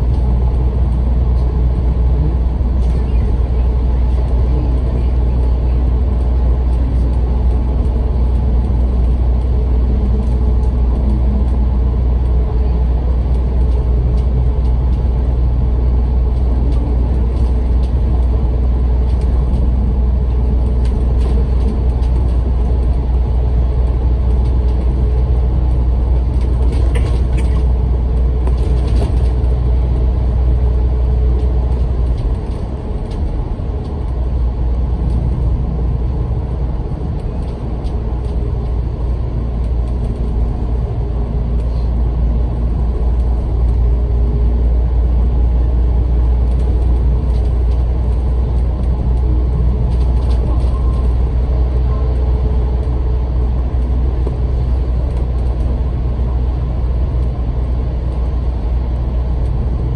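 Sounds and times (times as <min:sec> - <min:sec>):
bus engine rumbling: 0:00.0 - 0:59.9
road noise: 0:00.0 - 0:59.9.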